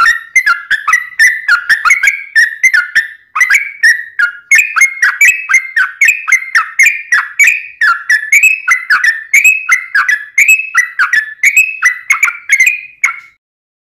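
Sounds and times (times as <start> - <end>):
bird singing whistled notes: 0.0 - 13.4.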